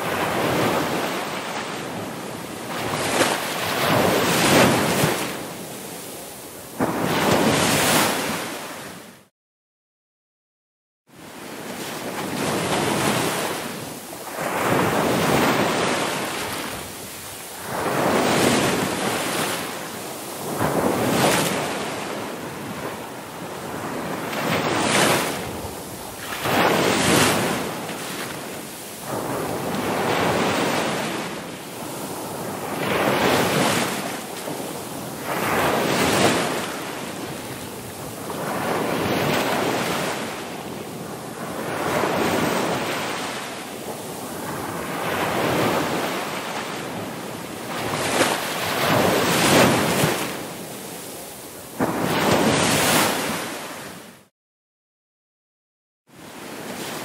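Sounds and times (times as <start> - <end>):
ocean waves breaking: 0.0 - 9.2, 11.2 - 54.3.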